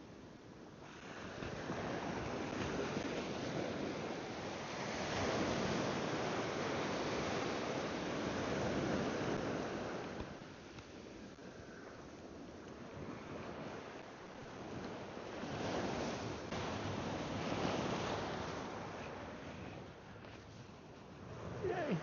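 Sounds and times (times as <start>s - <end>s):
wave breaking on beach: 0.8s - 22.0s.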